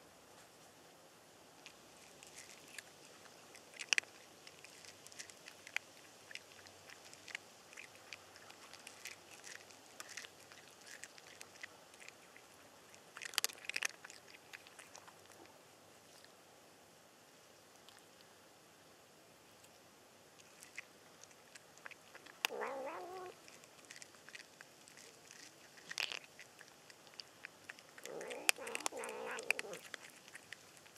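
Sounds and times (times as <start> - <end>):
cat crunching dry food: 1.6 - 16.4, 19.6 - 30.9.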